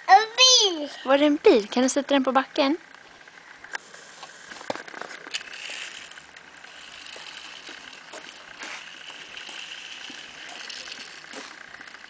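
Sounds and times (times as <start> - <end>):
toy car motor whirring: 1.8 - 12.0.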